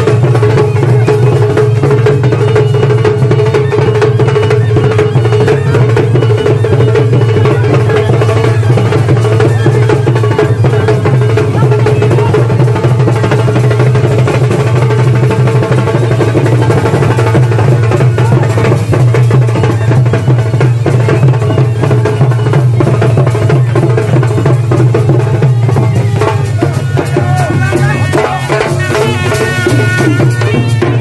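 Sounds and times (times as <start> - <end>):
drum-led folk music: 0.0 - 31.0.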